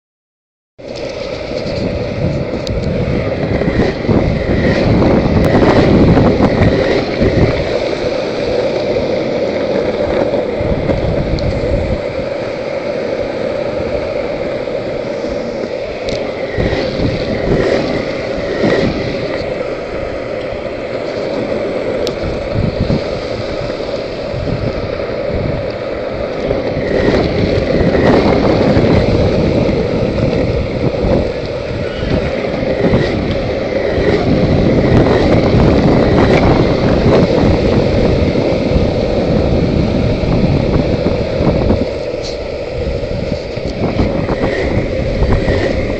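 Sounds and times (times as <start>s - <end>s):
skateboard wheels rumbling on pavement: 0.8s - 45.9s
wind buffeting microphone: 0.8s - 45.9s.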